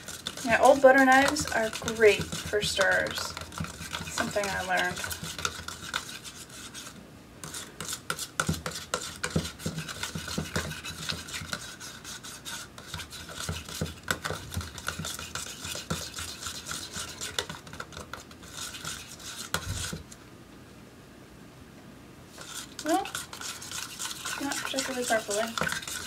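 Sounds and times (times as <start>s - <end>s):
knife scraping plastic cup: 0.0s - 20.1s, 22.3s - 26.0s.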